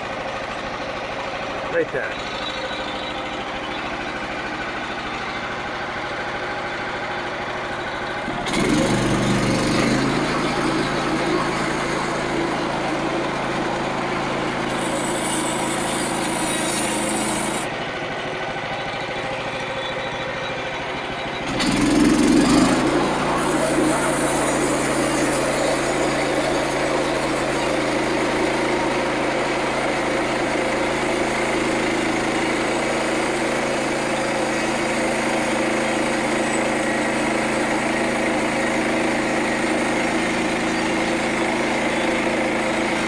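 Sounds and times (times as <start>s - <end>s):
small gasoline engine running: 0.0s - 43.0s.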